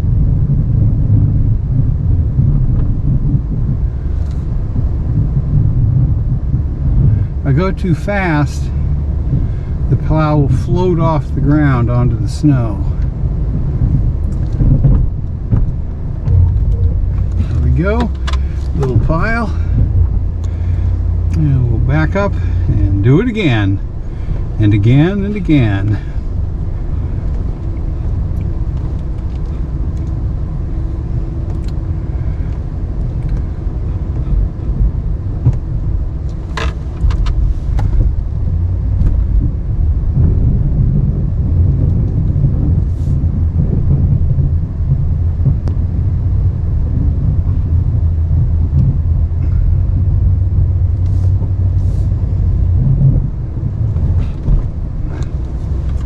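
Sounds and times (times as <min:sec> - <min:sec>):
pickup engine running: 0:00.0 - 0:56.0
plow blade pushing snow: 0:00.8 - 0:56.0.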